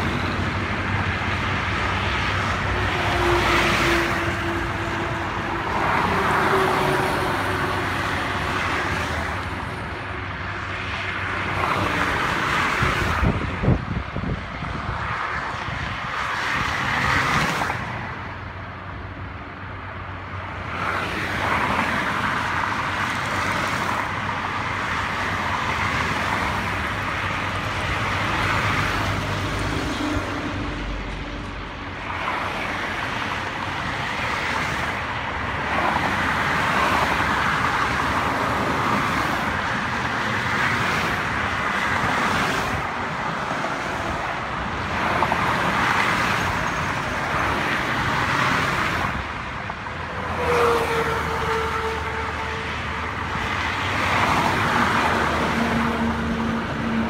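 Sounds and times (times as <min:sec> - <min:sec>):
cars and trucks passing: 0:00.0 - 0:57.0.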